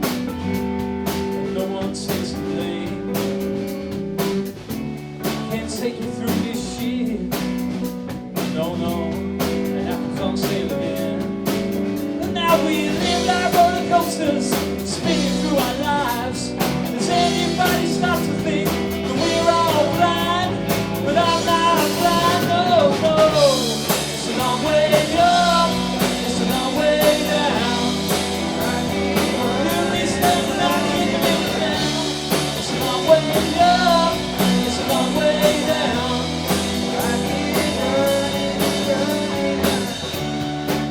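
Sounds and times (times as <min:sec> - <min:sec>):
bending lead melody line: 0:00.0 - 0:40.9
live band playing: 0:00.0 - 0:40.9
steady bass line: 0:00.0 - 0:40.9.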